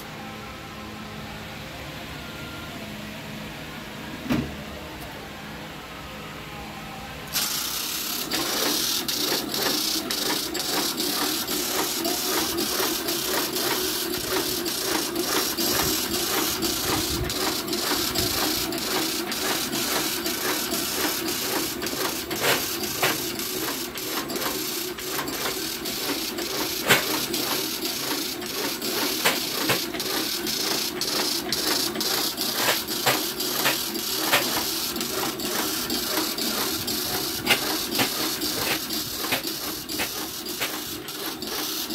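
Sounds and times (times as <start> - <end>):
machine mechanical hum: 0.0 - 41.9
rapid sharp clicks: 7.4 - 41.9.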